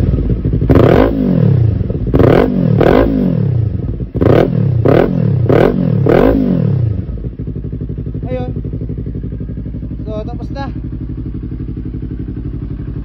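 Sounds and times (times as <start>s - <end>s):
motorcycle engine idling: 0.0s - 13.0s
motorcycle engine revving: 0.0s - 13.0s.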